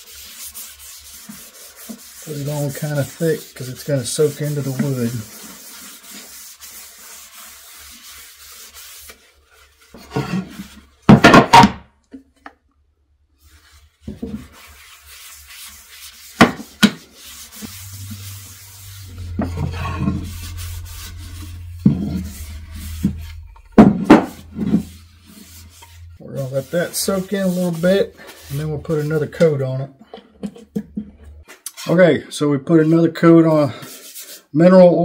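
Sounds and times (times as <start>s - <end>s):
paper towel rubbing wood: 0.0s - 11.0s, 13.4s - 29.8s, 32.8s - 34.5s.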